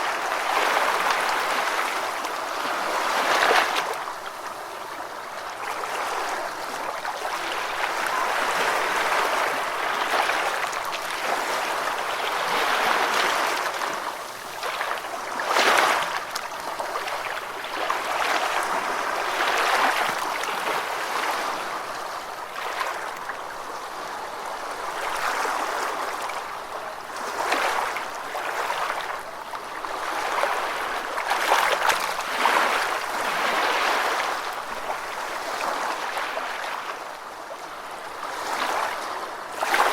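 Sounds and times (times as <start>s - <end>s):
ocean waves on beach: 0.0s - 39.9s.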